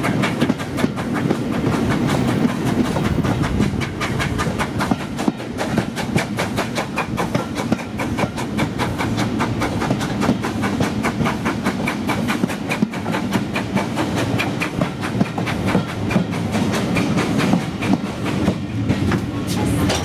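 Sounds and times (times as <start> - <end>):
train carriages rumbling: 0.0 - 20.0.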